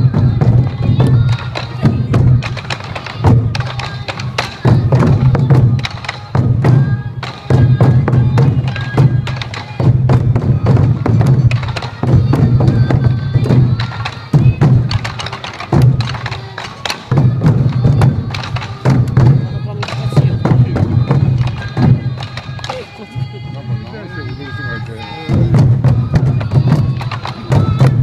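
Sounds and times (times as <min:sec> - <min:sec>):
taiko drums beaten fast: 0:00.0 - 0:24.4, 0:25.2 - 0:28.0
transverse flutes playing melody: 0:00.0 - 0:28.0.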